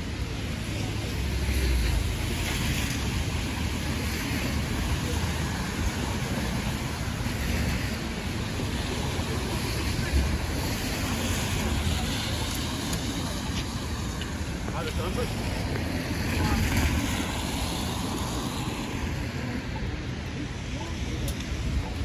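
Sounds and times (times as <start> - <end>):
rain: 0.0 - 22.0
traffic on wet pavement: 0.0 - 22.0
wind rumbling on microphone: 0.0 - 22.0.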